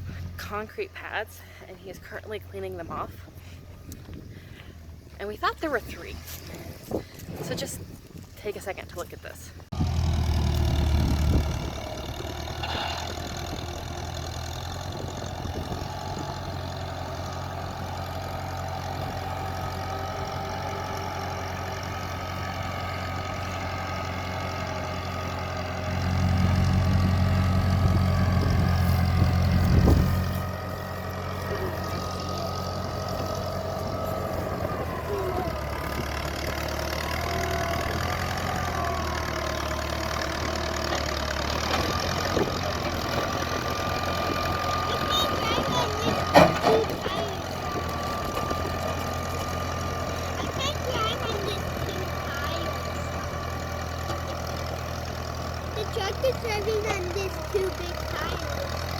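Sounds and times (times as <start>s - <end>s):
machine engine running: 9.7s - 58.9s.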